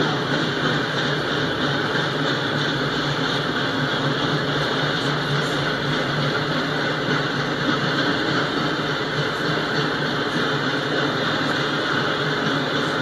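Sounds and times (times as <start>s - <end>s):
steel wheels running on rails: 0.0s - 13.0s.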